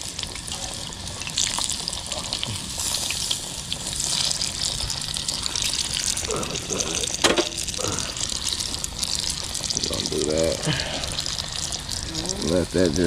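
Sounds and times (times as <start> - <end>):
fish deep-frying in oil: 0.0 - 13.0.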